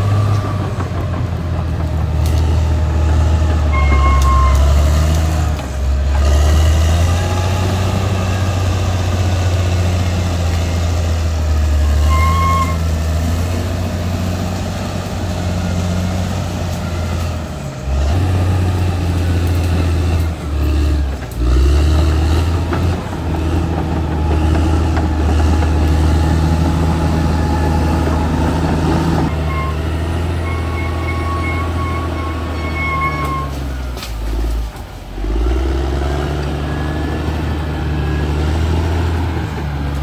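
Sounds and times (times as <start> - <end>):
bulldozer diesel engine under load: 0.0 - 40.0.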